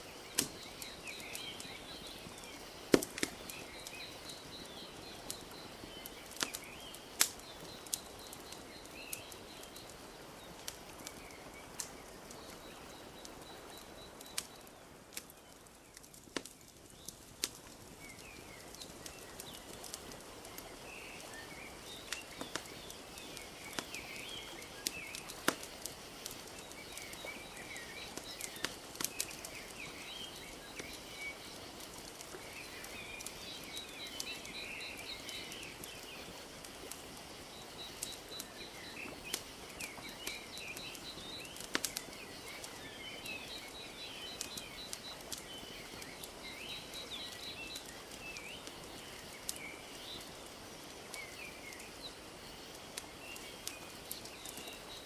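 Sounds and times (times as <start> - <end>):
small birds chirping: 0.0 - 55.0
wood fire crackling and popping: 0.0 - 55.0.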